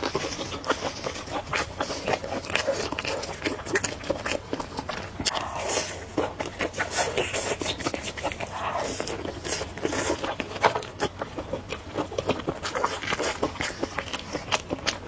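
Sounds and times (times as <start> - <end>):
person chewing noodles: 0.0 - 15.0
slurps: 0.0 - 15.0
wet mouth clicks: 0.0 - 15.0.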